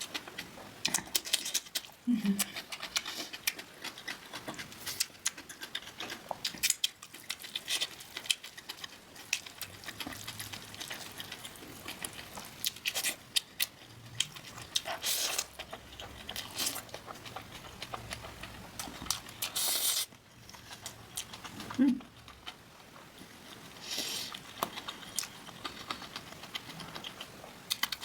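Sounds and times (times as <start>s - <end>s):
chewing and crunching food: 0.0s - 28.0s.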